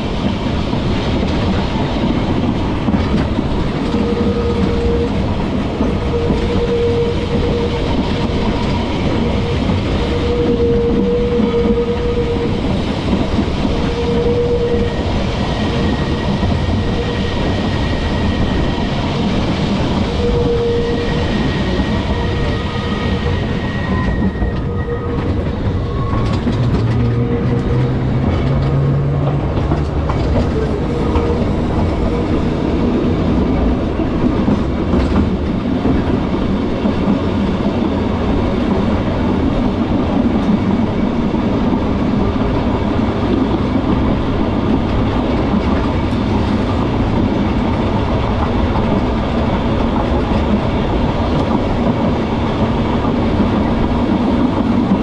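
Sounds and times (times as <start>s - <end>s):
tram wheels rumbling on rails: 0.0s - 55.0s.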